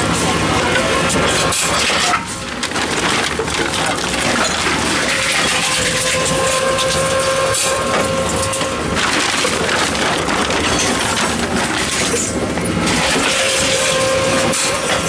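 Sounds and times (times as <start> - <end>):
plastic bottles crinkling: 1.6 - 13.8.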